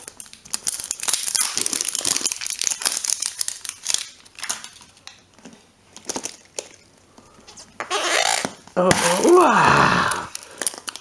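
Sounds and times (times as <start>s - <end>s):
plastic wrapper crinkling: 0.0s - 9.3s, 10.3s - 11.0s.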